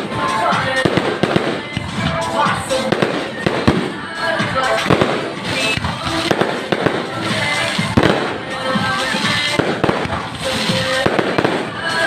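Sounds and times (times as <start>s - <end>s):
fireworks bangs and cracks: 0.0s - 12.0s
music playing: 0.0s - 12.0s.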